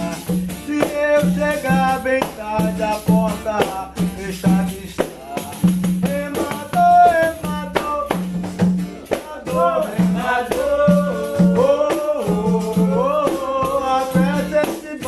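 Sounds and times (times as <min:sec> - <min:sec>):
acoustic guitar strumming: 0:00.0 - 0:15.0
rattling percussion: 0:00.0 - 0:15.0.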